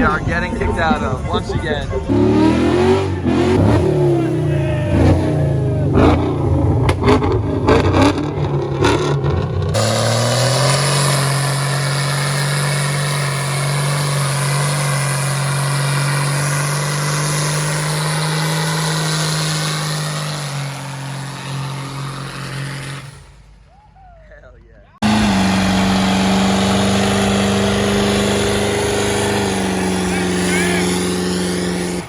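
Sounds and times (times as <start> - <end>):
diesel truck engine revving: 0.0 - 23.7, 25.0 - 32.0.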